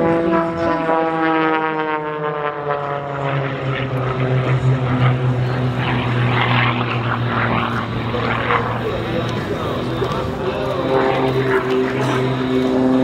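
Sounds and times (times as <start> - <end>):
plane engine drone: 0.0 - 13.0.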